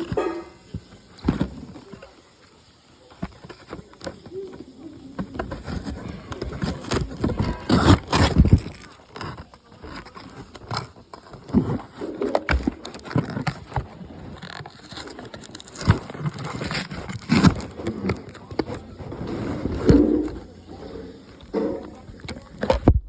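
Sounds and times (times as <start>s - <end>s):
hands handling packaging: 0.0s - 22.9s.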